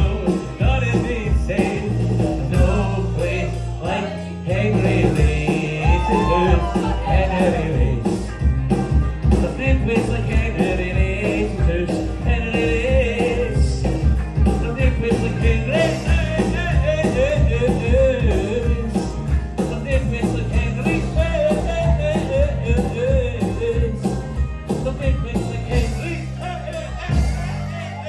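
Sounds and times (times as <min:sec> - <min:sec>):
rock band playing: 0:00.0 - 0:28.0.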